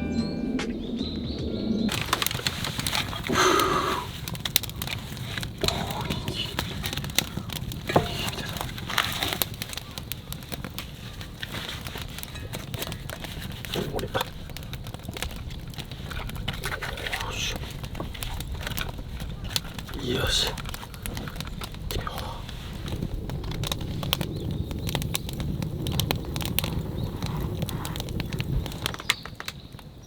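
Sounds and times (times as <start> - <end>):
campfire crackling and popping: 0.7 - 30.0
sharp wood snap: 1.9 - 30.0.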